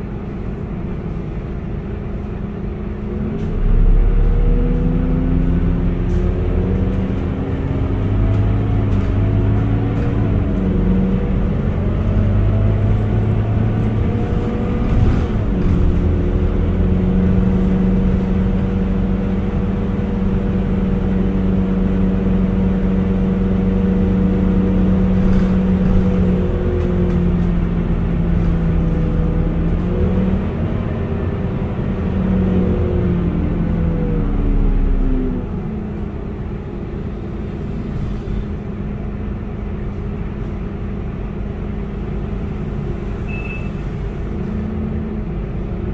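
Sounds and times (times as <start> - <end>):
bus diesel engine drone: 0.0 - 45.9.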